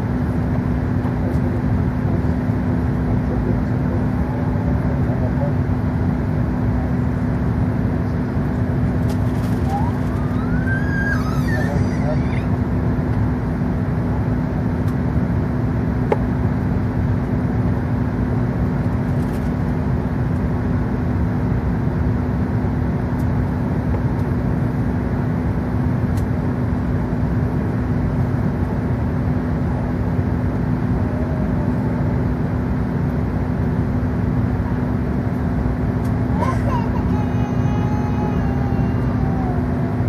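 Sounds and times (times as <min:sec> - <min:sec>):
cabin hum with low tone: 0:00.0 - 0:40.0
jet engines at low thrust: 0:00.0 - 0:40.0.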